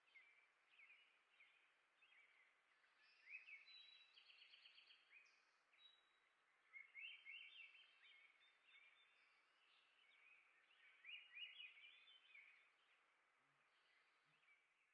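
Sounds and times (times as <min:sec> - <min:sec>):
songbird chirps and trills: 0:00.0 - 0:14.9.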